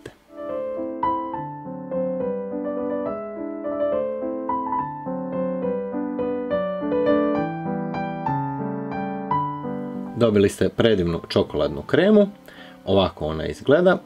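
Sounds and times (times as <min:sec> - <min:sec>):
piano melody: 0:00.2 - 0:14.0.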